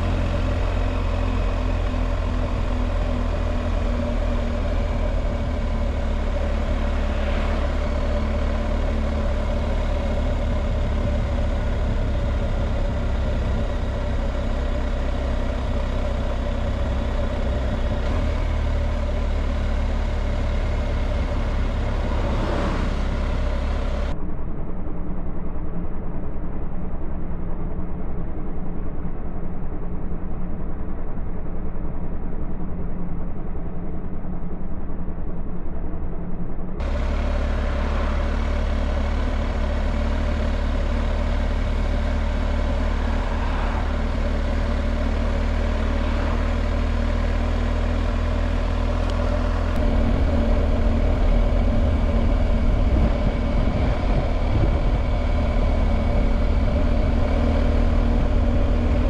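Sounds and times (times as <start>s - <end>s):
motorcycle engine running: 0.0s - 24.2s, 30.3s - 59.0s
wind and road noise: 0.0s - 59.0s.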